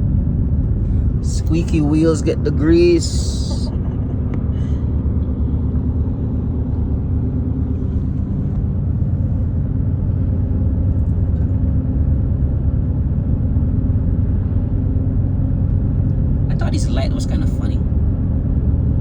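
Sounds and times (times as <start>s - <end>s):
car driving rumble: 0.0s - 12.0s, 13.4s - 19.0s.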